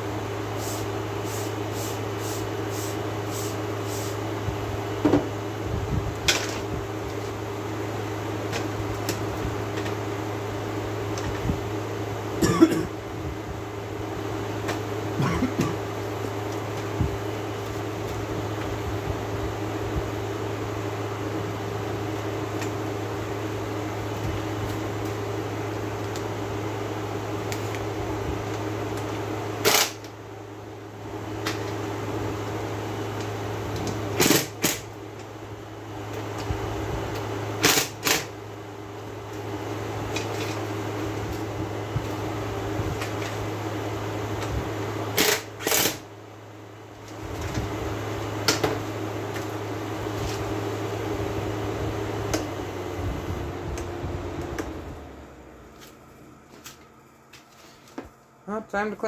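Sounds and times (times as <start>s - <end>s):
air conditioner fan hum: 0.0s - 59.0s.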